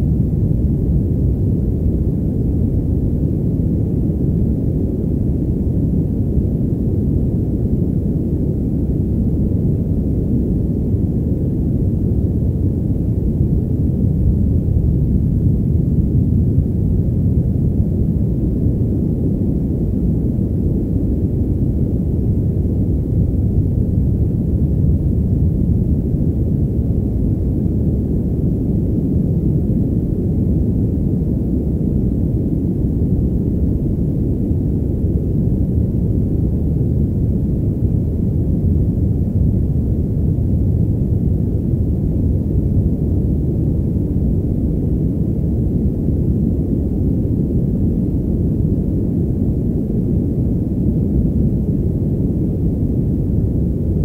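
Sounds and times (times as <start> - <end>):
muffled white noise: 0.0 - 54.0.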